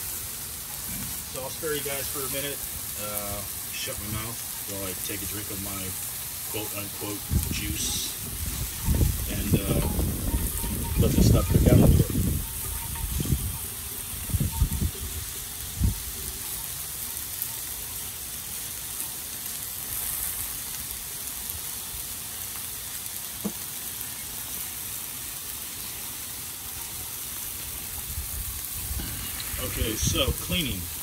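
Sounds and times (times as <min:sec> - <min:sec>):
food sizzling on griddle: 0:00.0 - 0:31.0.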